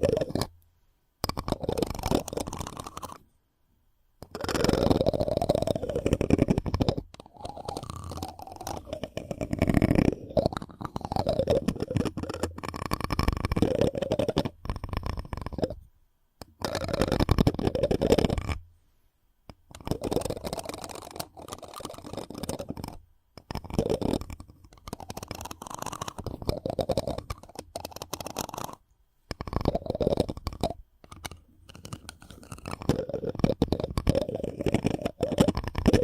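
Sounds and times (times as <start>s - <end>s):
rubbing and scratching on microphone: 0.0s - 0.6s, 1.2s - 3.2s, 4.2s - 18.7s, 19.5s - 36.0s.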